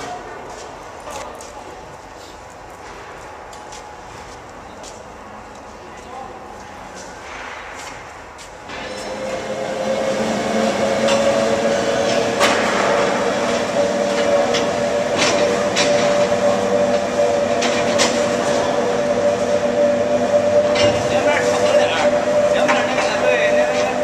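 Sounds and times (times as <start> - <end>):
machinery humming whine: 0.0 - 24.0.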